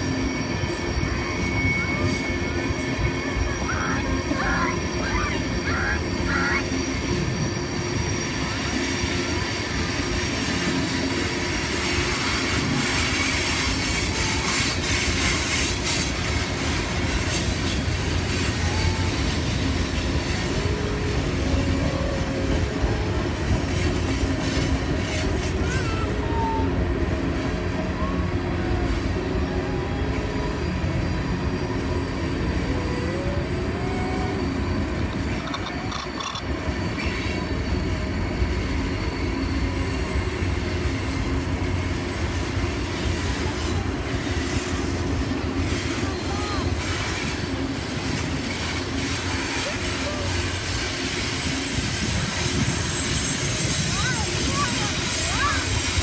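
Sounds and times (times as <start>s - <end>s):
train wheels rumbling on rails: 0.0s - 56.0s
wavering wheel squeal: 0.0s - 56.0s.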